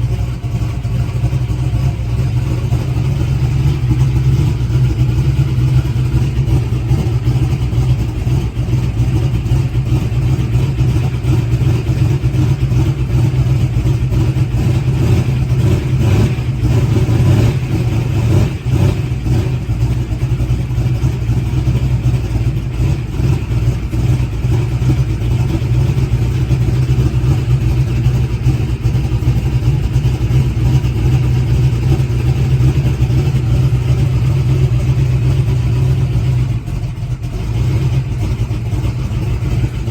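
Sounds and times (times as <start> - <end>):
drag engine idling: 0.0 - 39.9.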